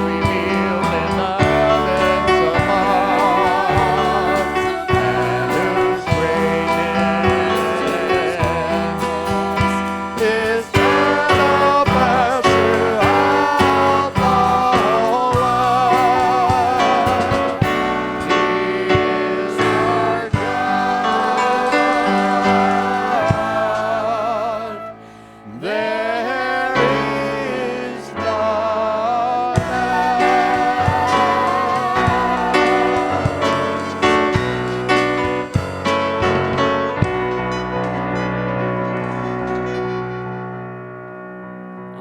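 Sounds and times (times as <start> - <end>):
person singing with vibrato: 0.0 - 40.5
band playing: 0.0 - 41.6.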